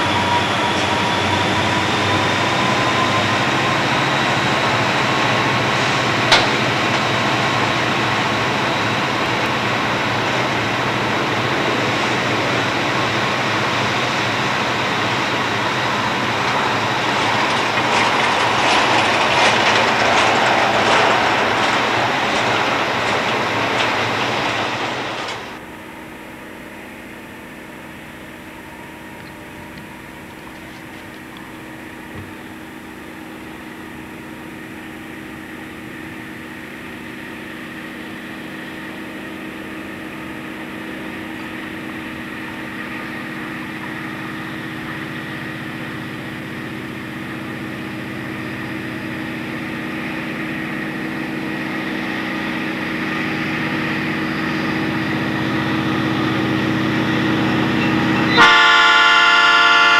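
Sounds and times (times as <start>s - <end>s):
wheels clacking over rail joints: 0.0s - 25.7s, 29.0s - 58.8s
distant diesel locomotive drone: 0.0s - 59.9s.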